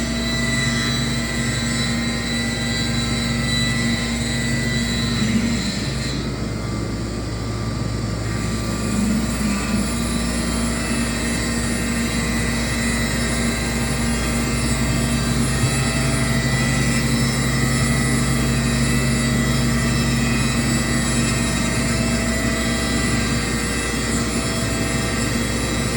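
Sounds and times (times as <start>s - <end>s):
cnc router droning: 0.0s - 25.9s.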